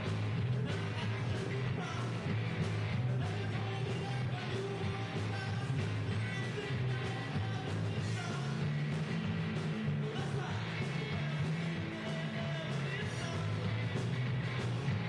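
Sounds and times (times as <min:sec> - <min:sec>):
bass guitar: 0:00.0 - 0:15.0
drums: 0:00.0 - 0:15.0
electric guitars: 0:00.0 - 0:15.0.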